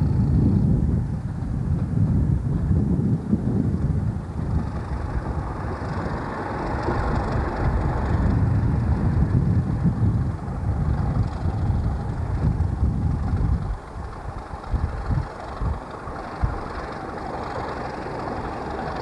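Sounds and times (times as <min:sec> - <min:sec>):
locomotive engine running: 0:00.0 - 0:19.0.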